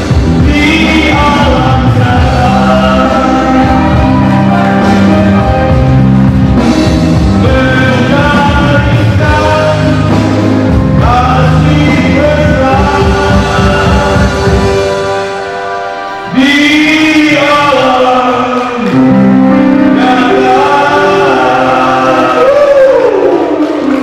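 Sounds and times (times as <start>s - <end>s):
man singing into microphone: 0.0s - 6.0s, 7.3s - 15.1s, 16.2s - 24.0s
musical accompaniment: 0.0s - 24.0s.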